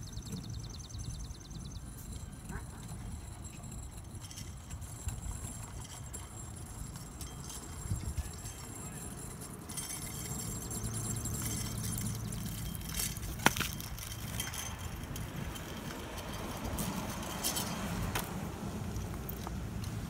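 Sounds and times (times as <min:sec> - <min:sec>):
go-kart rolling over asphalt: 0:00.0 - 0:20.0.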